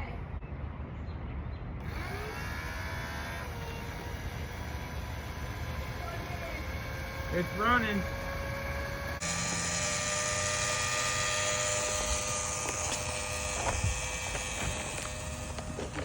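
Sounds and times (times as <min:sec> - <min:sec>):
water pump humming: 0:01.8 - 0:16.0.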